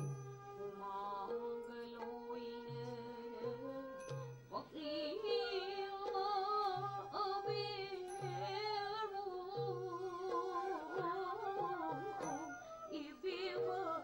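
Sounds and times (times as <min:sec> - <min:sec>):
high voice singing with vibrato: 0:00.0 - 0:14.0.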